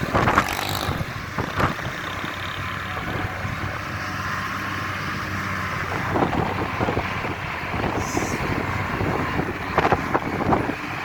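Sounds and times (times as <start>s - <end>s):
diesel truck engine running: 0.0s - 11.0s
wind noise on microphone: 0.0s - 11.0s.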